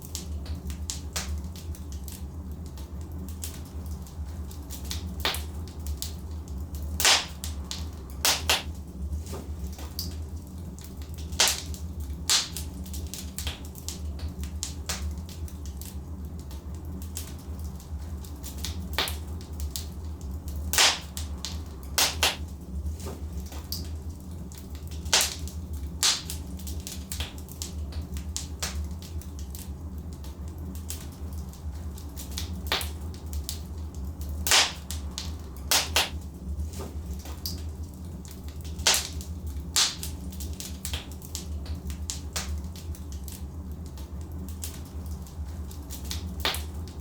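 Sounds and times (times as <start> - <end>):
fire rumbling: 0.0 - 47.0
logs crackling and popping: 0.0 - 47.0.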